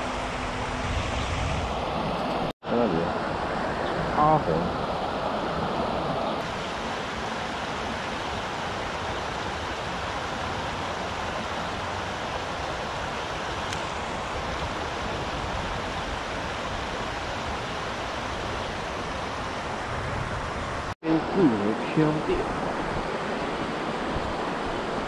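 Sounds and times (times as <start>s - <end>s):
river water rushing over rocks: 4.8s - 25.0s.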